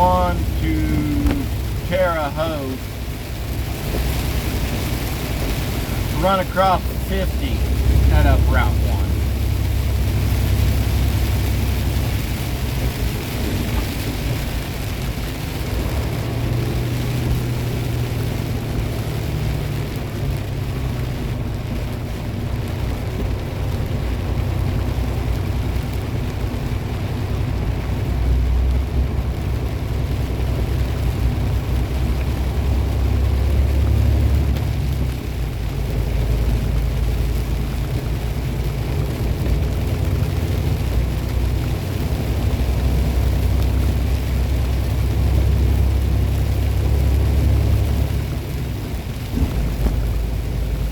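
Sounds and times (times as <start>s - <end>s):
diesel truck engine droning: 0.0s - 50.9s
road and rain hiss: 0.0s - 50.9s.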